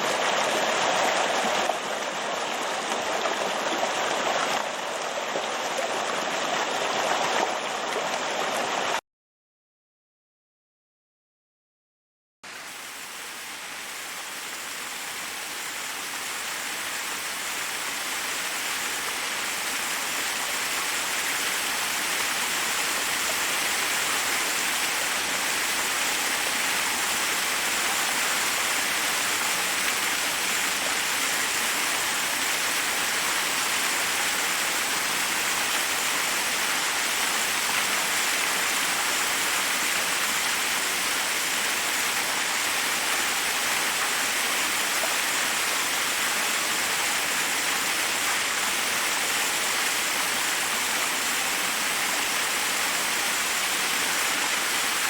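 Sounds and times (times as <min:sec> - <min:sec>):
waterfall rushing: 0:00.0 - 0:09.0, 0:12.5 - 0:55.0.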